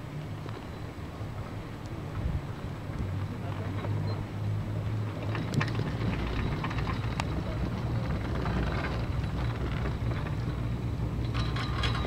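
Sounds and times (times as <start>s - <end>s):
chairlift rumbling: 0.0s - 12.0s.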